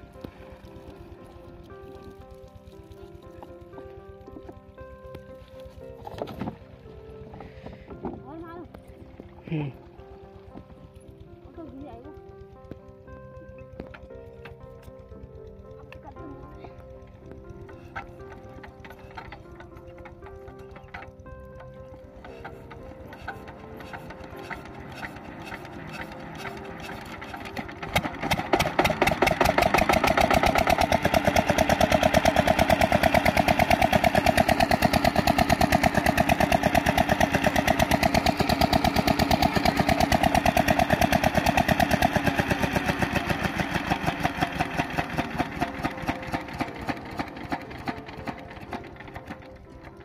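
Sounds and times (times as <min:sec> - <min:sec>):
diesel pump engine thudding: 0:01.6 - 0:50.0.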